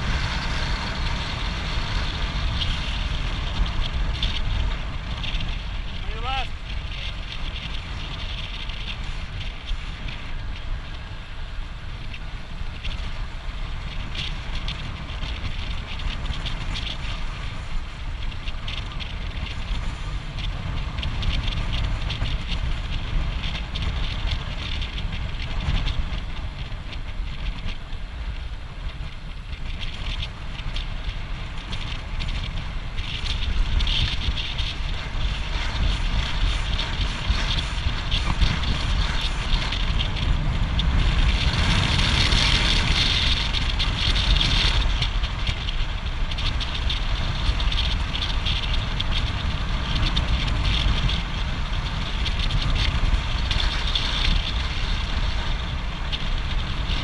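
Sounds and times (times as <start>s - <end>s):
bike tyres hissing on asphalt: 0.0s - 57.0s
wind buffeting microphone: 0.0s - 57.0s.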